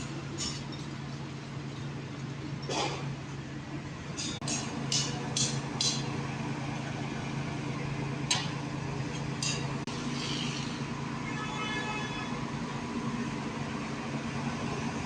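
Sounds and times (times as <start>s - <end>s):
dump truck engine running: 0.0s - 15.0s.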